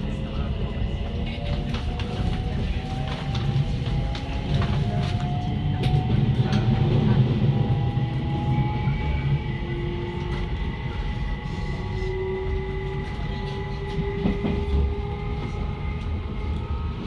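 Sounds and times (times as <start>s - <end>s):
electric train rumble: 0.0s - 17.0s.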